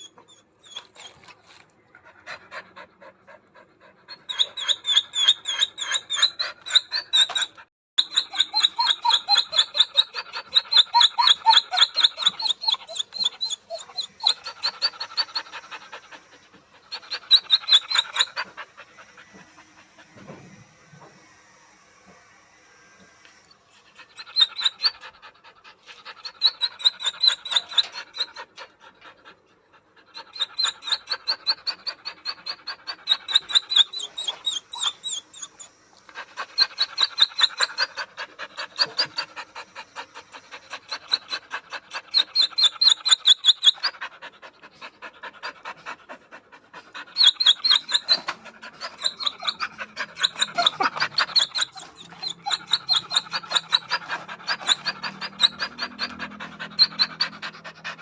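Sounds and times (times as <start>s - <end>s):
dog whining: 0.0s - 29.4s, 30.0s - 58.0s
dog panting: 0.7s - 21.2s, 23.4s - 58.0s.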